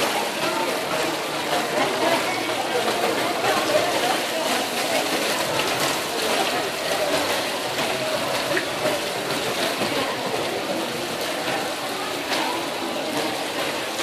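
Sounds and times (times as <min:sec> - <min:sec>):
water splashing over rocks: 0:00.0 - 0:14.0.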